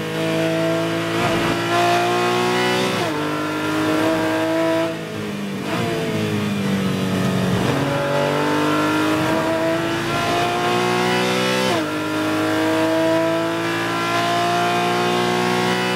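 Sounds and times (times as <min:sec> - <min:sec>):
racing engine accelerating: 0:00.0 - 0:15.9.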